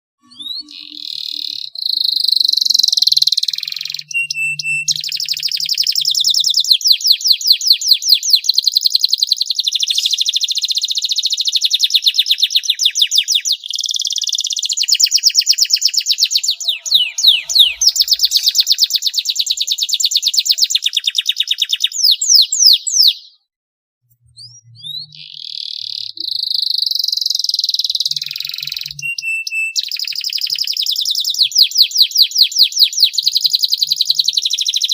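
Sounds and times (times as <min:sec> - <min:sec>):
canary singing trills: 0:00.2 - 0:23.5, 0:24.2 - 0:34.9.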